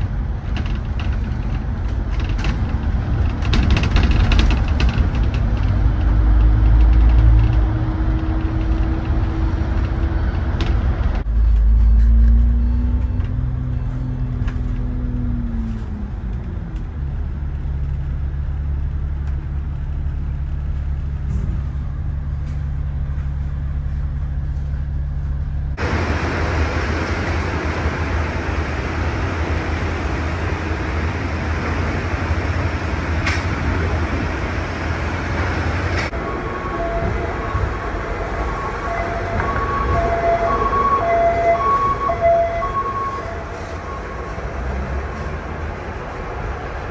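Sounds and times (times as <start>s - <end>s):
bus engine hum: 0.0s - 46.9s
road and rattle noise: 0.0s - 46.9s.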